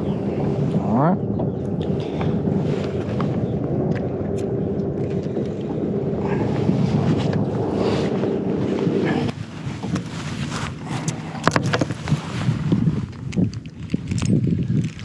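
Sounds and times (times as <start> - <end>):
boat motor humming: 0.0 - 14.6
wind on microphone: 0.0 - 15.0.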